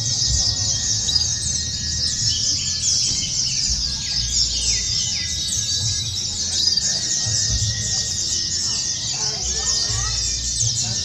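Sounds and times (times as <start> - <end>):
chorus of birds chirping: 0.0 - 11.0.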